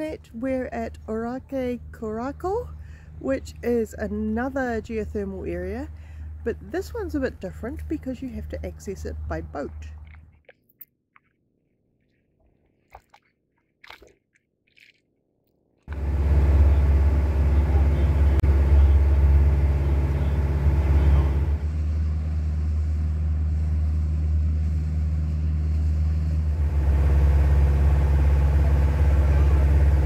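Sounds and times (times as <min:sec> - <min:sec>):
ferry engine droning: 0:00.0 - 0:10.1, 0:15.9 - 0:30.0.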